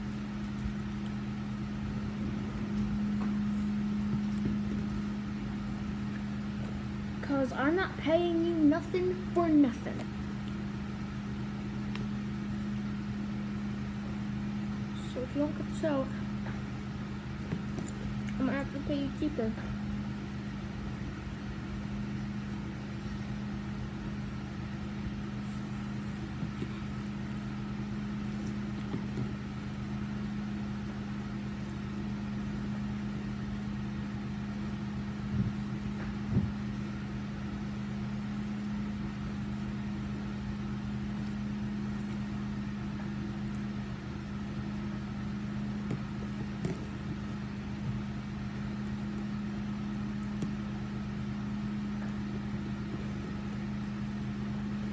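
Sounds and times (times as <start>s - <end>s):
low motor hum: 0.0s - 54.9s.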